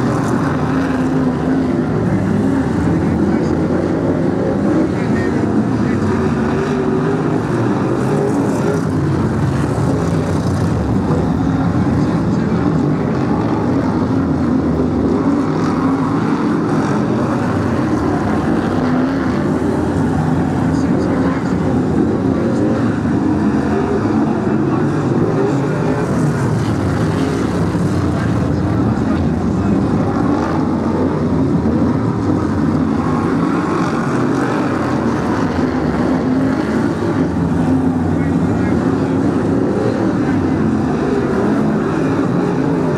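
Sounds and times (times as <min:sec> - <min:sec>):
racing car engines droning: 0:00.0 - 0:42.9.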